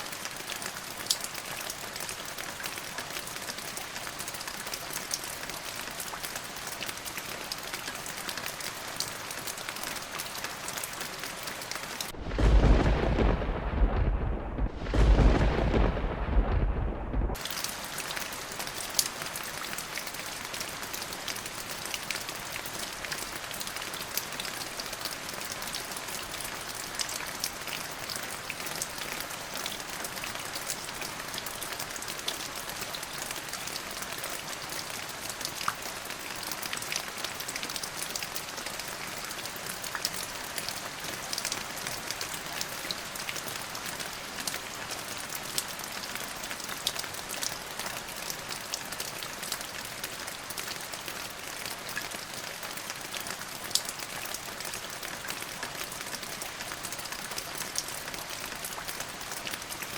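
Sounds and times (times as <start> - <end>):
rain falling: 0.0 - 59.9
raindrops ticking on surface: 0.0 - 59.9.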